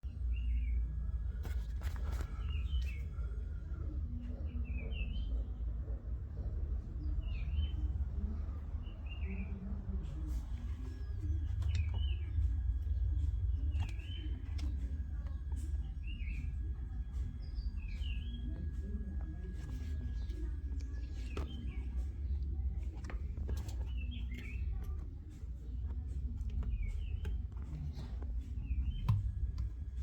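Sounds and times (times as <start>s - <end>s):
steady low rumble: 0.3s - 30.0s.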